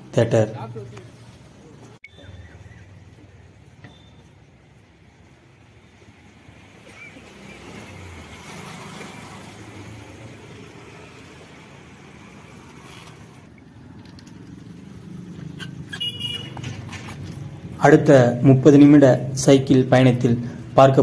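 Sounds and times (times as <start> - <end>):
traffic rushing by: 0.0 - 21.0.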